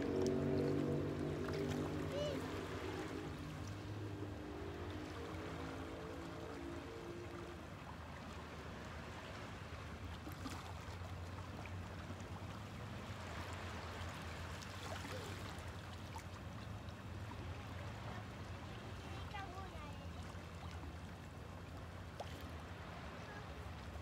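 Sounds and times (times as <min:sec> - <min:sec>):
seawater lapping among rocks: 0:00.0 - 0:24.0.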